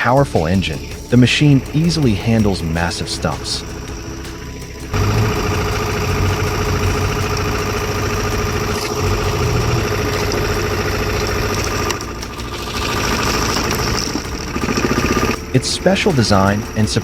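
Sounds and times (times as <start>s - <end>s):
machine engine humming: 0.4s - 17.0s.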